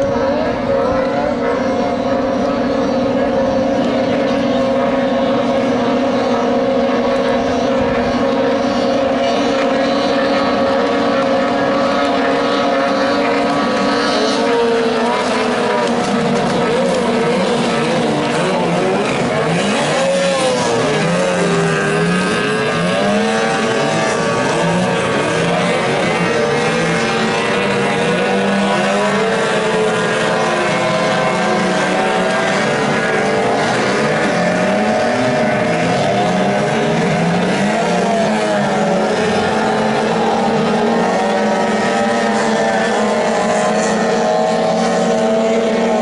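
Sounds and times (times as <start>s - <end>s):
outboard motors at high revs: 0.0s - 46.0s.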